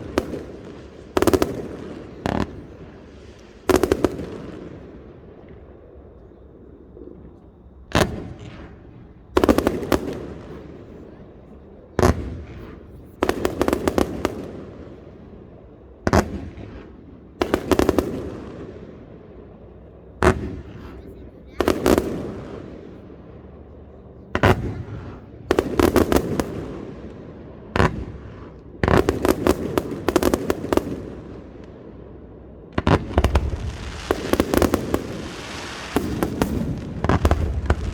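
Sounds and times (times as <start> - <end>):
fireworks bursting with echoes: 0.0 - 37.9.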